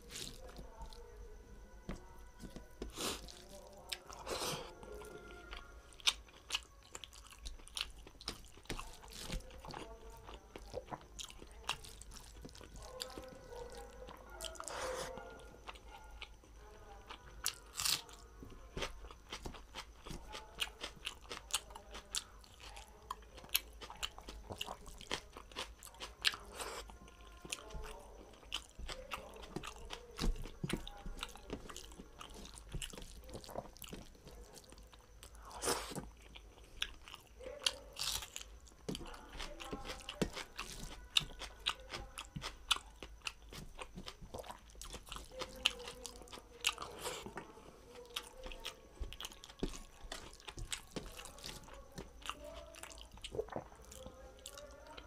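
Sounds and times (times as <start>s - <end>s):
chewing and lip smacking: 1.9s - 55.0s.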